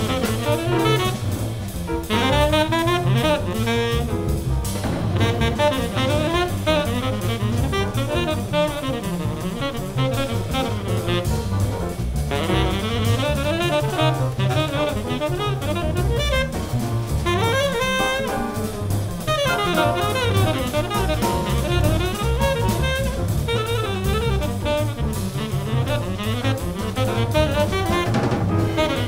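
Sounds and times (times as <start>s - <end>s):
drum kit with cymbals: 0.0s - 29.0s
plucked double bass: 0.0s - 29.0s
tenor saxophone: 0.0s - 29.0s.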